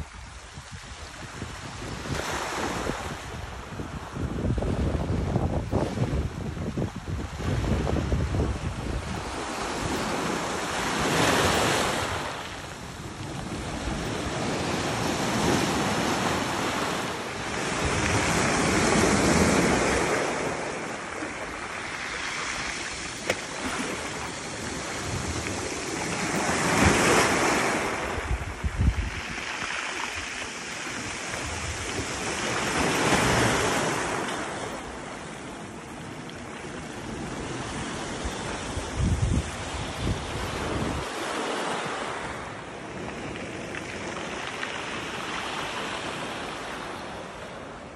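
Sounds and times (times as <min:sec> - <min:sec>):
wind rumbling on microphone: 0:00.0 - 0:41.3
sea waves on rocky shore: 0:00.0 - 0:47.9.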